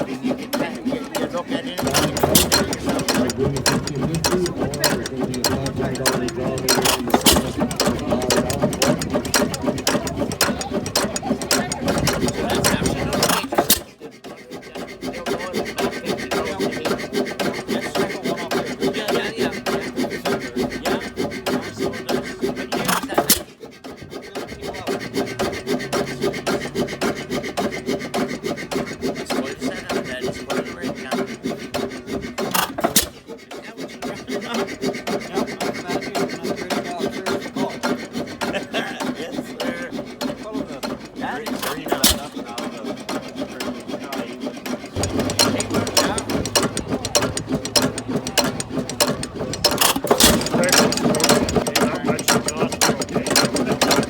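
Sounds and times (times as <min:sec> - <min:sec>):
stationary engine clattering: 0:00.0 - 0:54.0.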